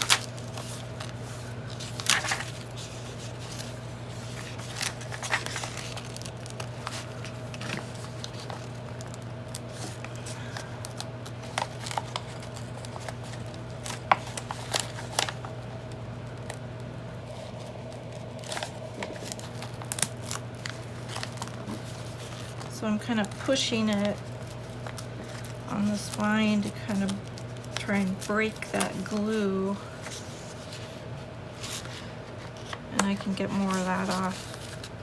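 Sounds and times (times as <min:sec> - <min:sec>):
old paper crackling and rustling: 0:00.0 - 0:35.0.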